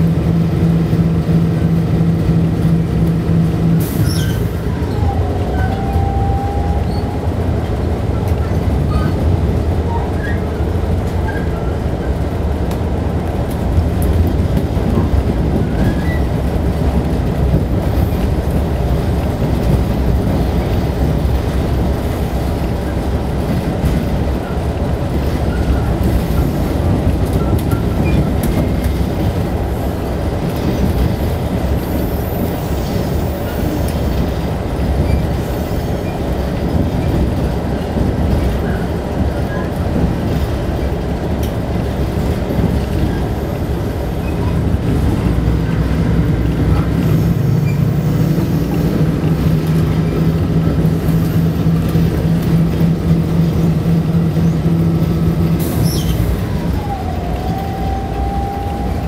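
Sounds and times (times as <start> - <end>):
train running on track: 0.0 - 59.0.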